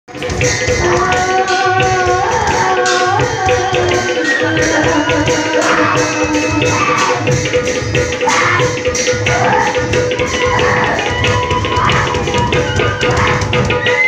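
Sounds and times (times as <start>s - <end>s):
hand drum strokes: 0.1s - 14.0s
held melody over drone: 0.2s - 14.0s.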